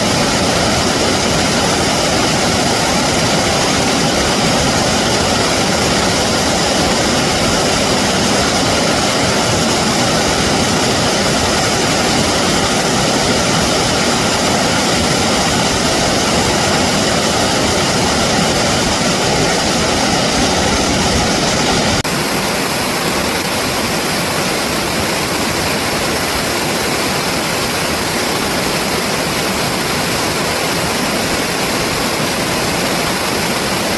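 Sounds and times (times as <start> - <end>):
reversed flowing water rushing: 0.0 - 33.9.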